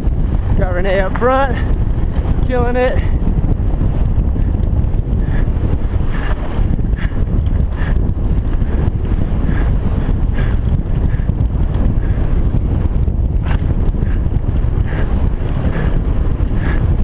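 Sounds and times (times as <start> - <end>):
tyres rumbling on dirt trail: 0.0 - 17.0
wind buffeting microphone: 0.0 - 17.0.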